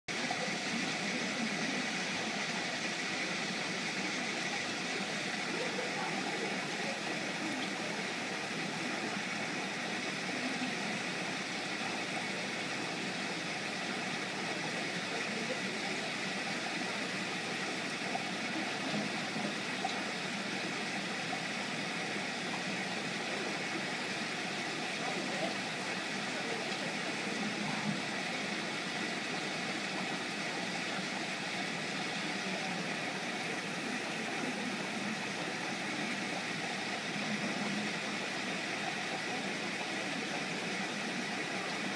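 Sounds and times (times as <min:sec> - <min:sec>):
background hiss and hum: 0:00.1 - 0:41.9.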